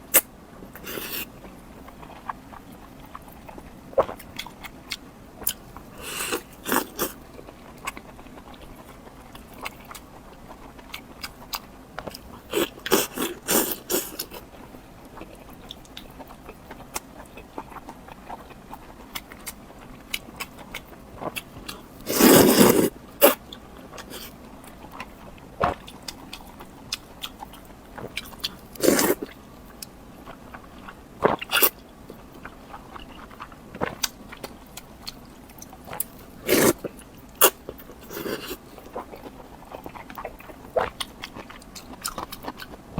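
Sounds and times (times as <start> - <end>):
crunchy chewing: 0.1 - 42.8.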